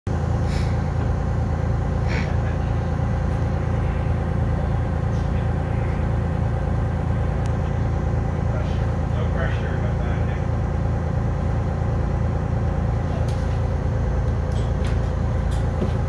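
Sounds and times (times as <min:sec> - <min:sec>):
diesel engine idling: 0:00.1 - 0:16.0.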